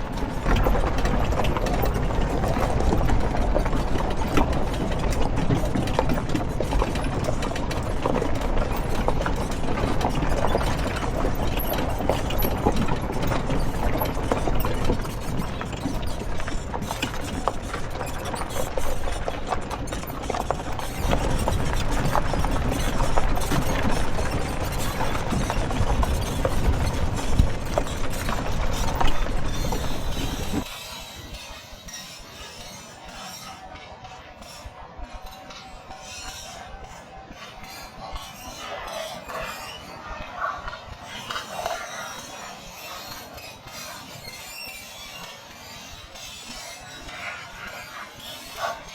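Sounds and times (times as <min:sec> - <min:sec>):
bike rattling over rough trail: 0:00.0 - 0:48.9.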